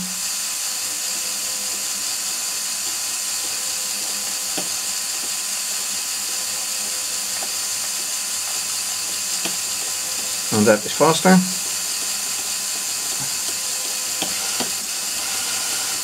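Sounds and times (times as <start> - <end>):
small electric motors whirring: 0.0 - 16.0.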